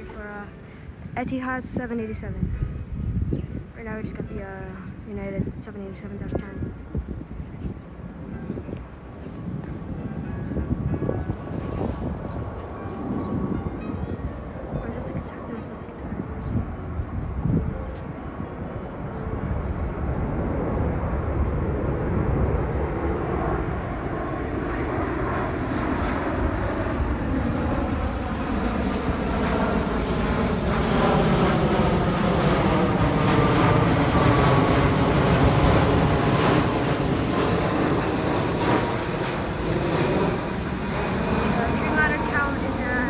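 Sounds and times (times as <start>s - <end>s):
jet airliner flying past: 0.0s - 43.0s.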